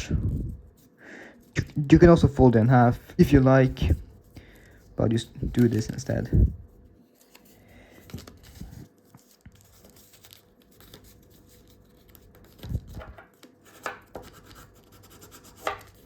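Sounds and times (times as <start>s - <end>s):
paper crinkling and rustling: 0.3s - 14.8s.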